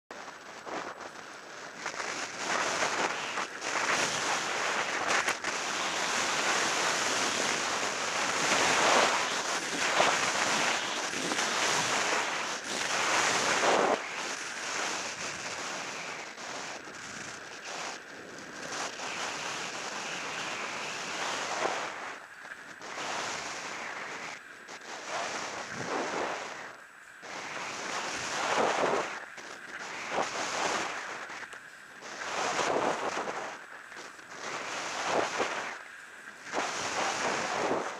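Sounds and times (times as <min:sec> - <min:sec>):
wind on microphone: 0:00.1 - 0:37.9
skis hissing and scraping on snow: 0:00.6 - 0:37.9.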